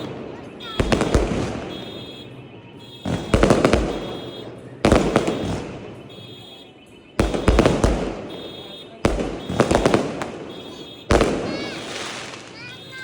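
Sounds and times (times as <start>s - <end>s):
fireworks bangs with crackle: 0.0s - 13.0s.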